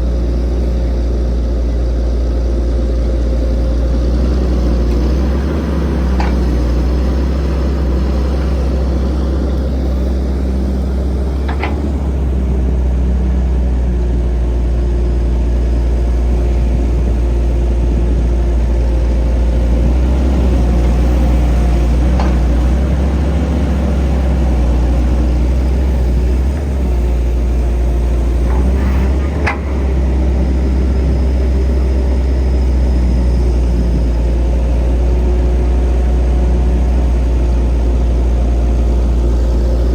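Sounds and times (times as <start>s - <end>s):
diesel engines humming: 0.0s - 39.9s.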